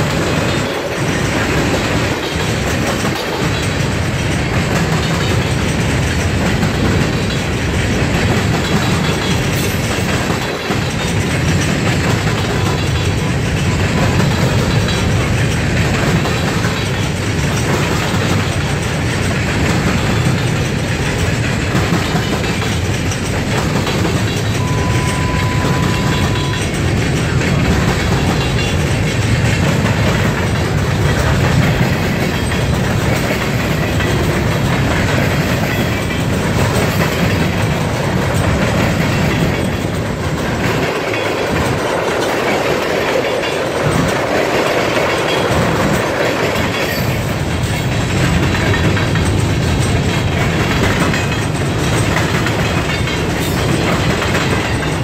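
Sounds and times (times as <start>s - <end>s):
freight train rolling past: 0.0s - 55.0s.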